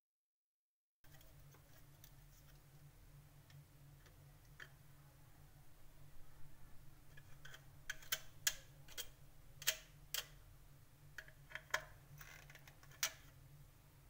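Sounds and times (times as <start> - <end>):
faint low hum: 1.1 - 14.0.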